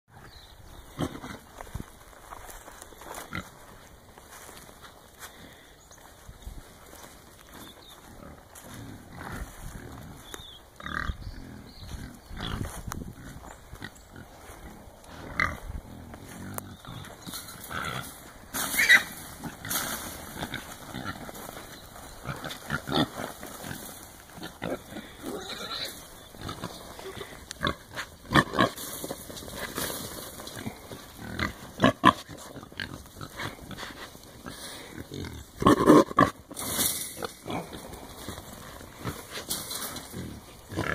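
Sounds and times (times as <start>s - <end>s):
hogs making pig calls: 8.0s - 40.9s.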